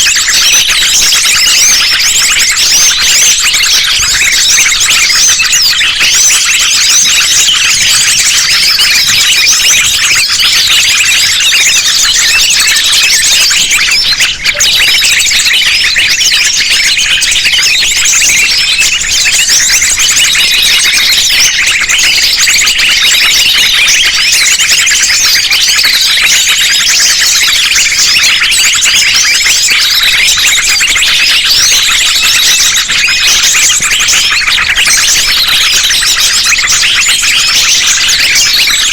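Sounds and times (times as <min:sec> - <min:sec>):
chorus of small songbirds: 0:00.0 - 0:38.9.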